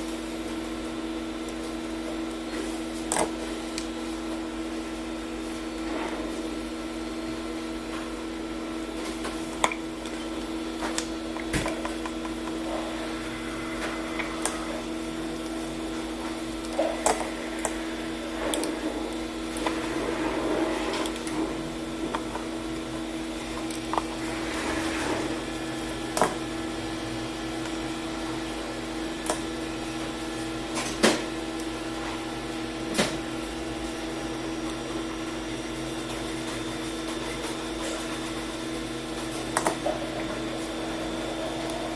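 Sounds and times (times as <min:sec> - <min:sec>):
electrical hum: 0:00.0 - 0:41.9.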